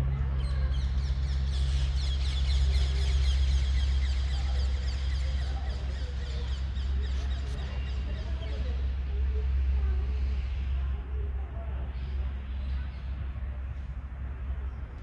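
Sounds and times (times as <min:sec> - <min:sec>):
small birds chirping chorus: 0:00.0 - 0:15.0
steady low rumble: 0:00.0 - 0:15.0.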